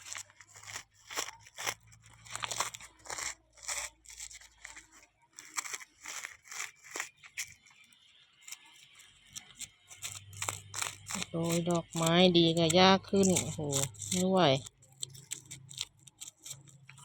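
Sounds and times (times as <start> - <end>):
seeds crunching and rustling: 0.0 - 17.0.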